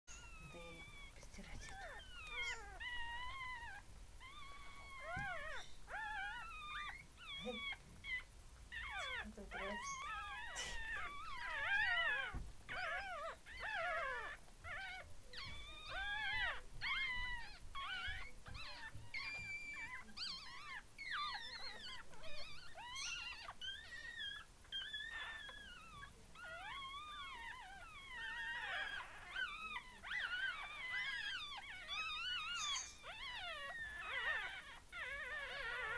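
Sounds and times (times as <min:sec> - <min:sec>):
puppies squeaking and whining: 0:00.1 - 0:35.9.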